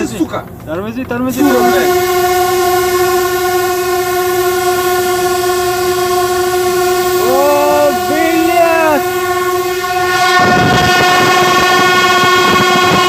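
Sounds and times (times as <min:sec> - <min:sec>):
locomotive horn blast: 0:01.3 - 0:13.0
second horn tone sliding up: 0:01.3 - 0:13.0.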